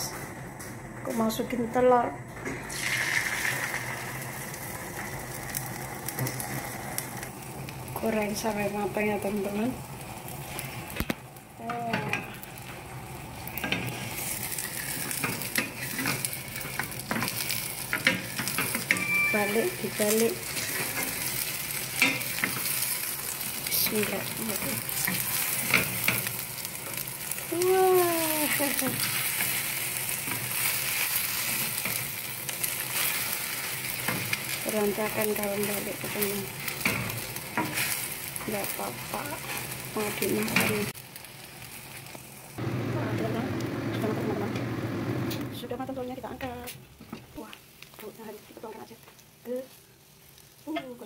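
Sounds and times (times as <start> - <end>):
egg sizzling in hot oil: 2.5 - 45.3, 46.2 - 51.0.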